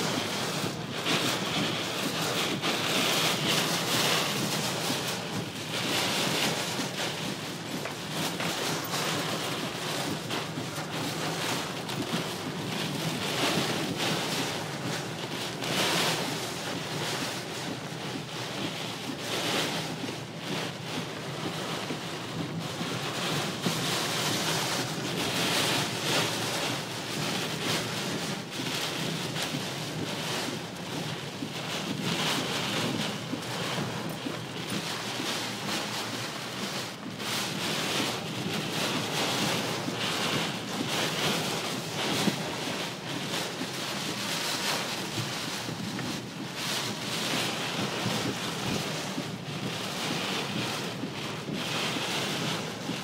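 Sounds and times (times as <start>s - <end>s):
rain: 0.0s - 53.0s.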